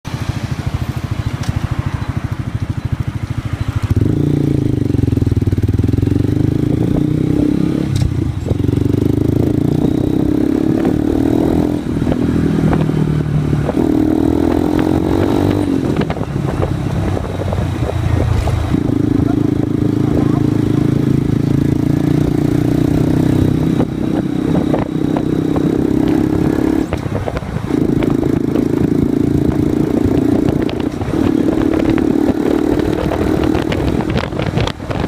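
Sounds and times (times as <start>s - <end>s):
motorcycle engine revving: 0.1s - 35.0s.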